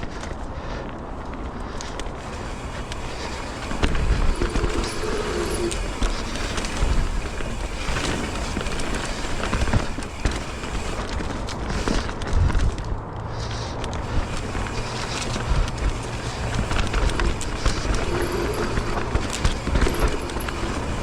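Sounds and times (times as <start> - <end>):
bike tyres rolling over dirt: 0.0 - 21.0
bike rattling and knocking: 1.9 - 21.0.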